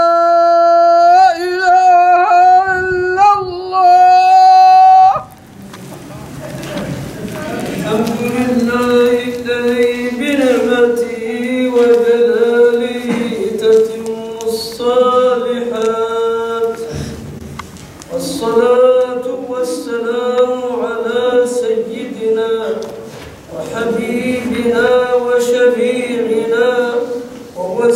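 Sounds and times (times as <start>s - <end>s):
man chanting: 0.0s - 5.4s, 6.8s - 17.3s, 18.1s - 27.9s.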